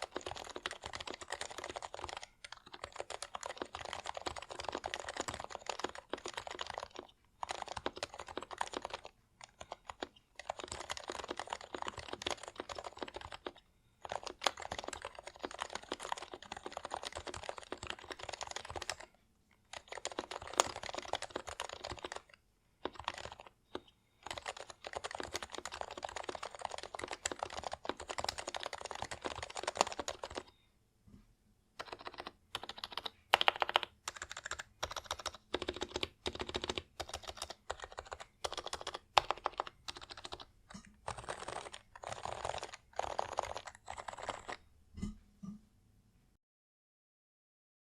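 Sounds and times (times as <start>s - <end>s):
keyboard typing: 0.0s - 30.6s, 31.8s - 45.1s.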